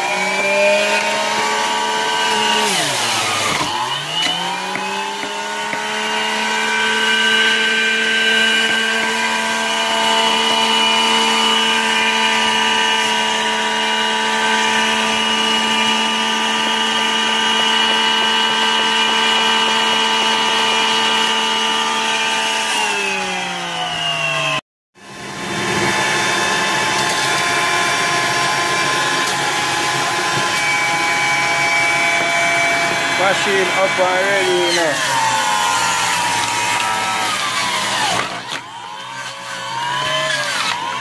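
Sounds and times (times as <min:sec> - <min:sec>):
electric juicer motor whining: 0:00.0 - 0:41.0.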